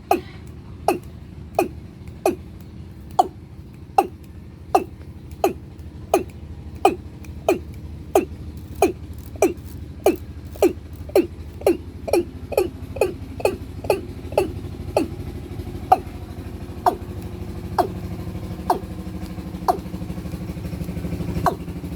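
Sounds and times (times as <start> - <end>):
bird calling downward-sliding notes: 0.0 - 21.9
steady low hum: 0.0 - 21.9.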